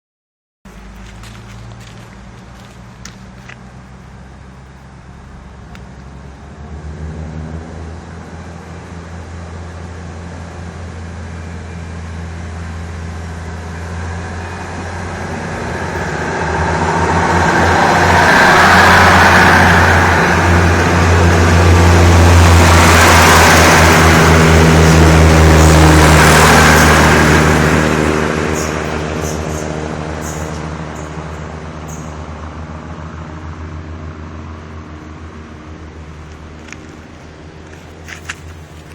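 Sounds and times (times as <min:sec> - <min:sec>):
diesel train engine under load: 0:00.7 - 0:38.9
wheel and rail noise: 0:00.7 - 0:38.9.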